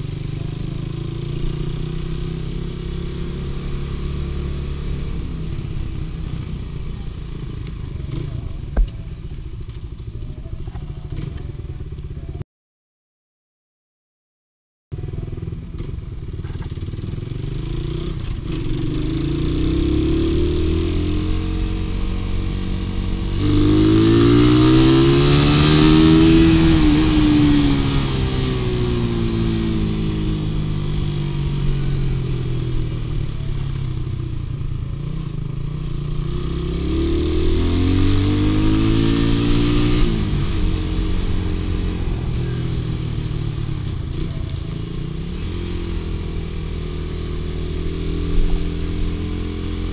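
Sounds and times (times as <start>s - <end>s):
motorcycle engine accelerating: 0.0s - 12.4s, 14.9s - 49.9s.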